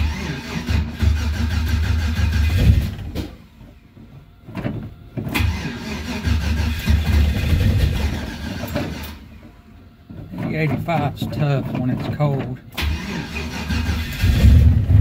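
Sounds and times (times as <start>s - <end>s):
engine cranking on starter: 0.0s - 3.4s, 4.6s - 9.6s, 10.3s - 15.0s.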